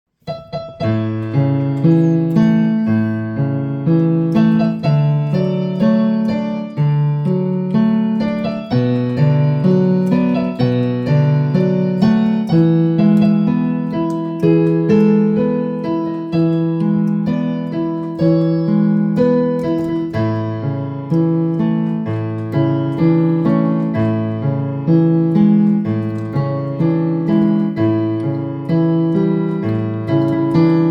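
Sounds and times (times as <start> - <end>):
electronic keyboard playing hymn chords: 0.2 - 30.9.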